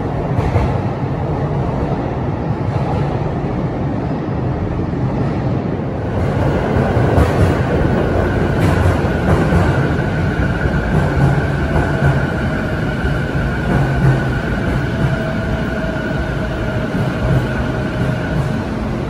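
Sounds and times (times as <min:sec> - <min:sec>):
train running: 0:00.0 - 0:19.0
train whine over rumble: 0:00.0 - 0:19.0.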